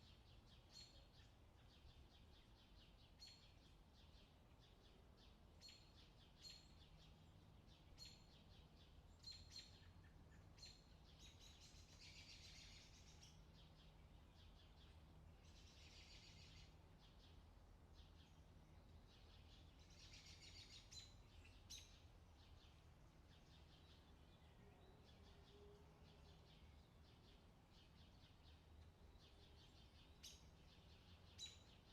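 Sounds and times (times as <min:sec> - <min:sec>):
faint low hum: 0:00.0 - 0:31.9
birds chirping: 0:05.6 - 0:31.9.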